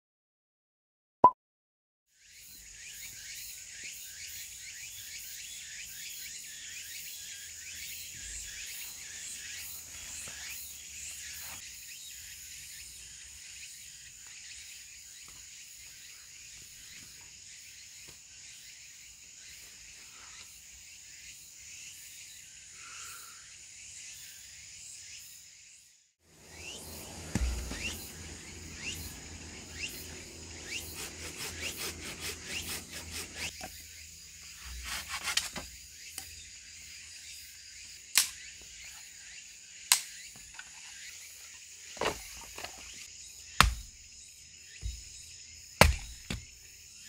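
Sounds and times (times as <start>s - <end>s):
crickets and insects chirring: 2.2s - 47.0s.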